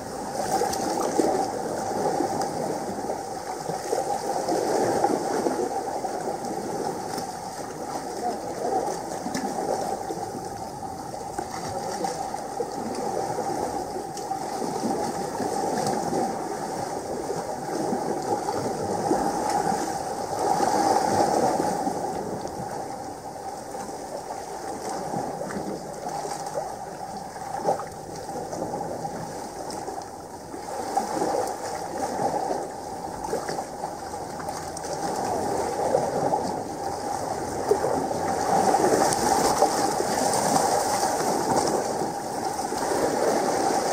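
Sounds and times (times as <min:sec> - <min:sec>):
sea water washing against rocks: 0:00.0 - 0:43.9.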